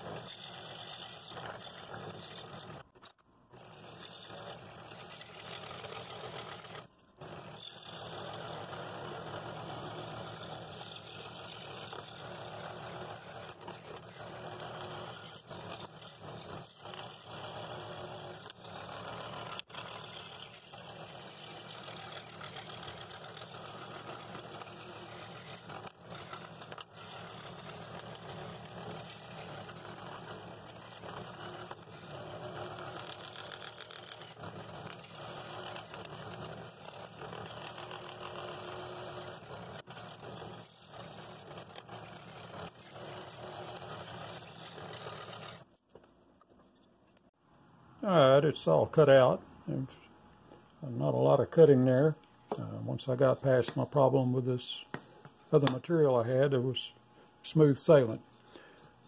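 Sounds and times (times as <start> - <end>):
scroll saw cutting wood: 0.0 - 46.0, 50.8 - 56.9.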